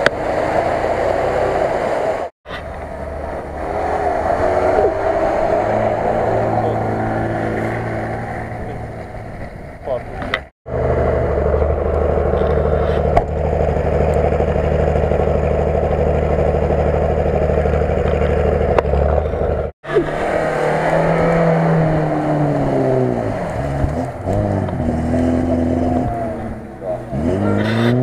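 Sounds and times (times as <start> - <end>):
car engine revving in mud: 0.0 - 9.5, 10.7 - 28.0.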